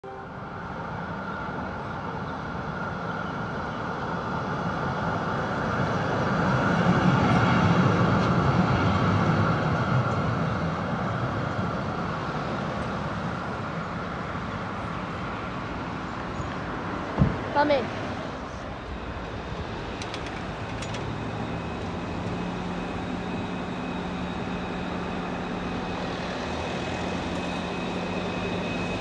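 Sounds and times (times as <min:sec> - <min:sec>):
street traffic: 0:00.0 - 0:29.0
tram passing on tracks: 0:00.0 - 0:29.0.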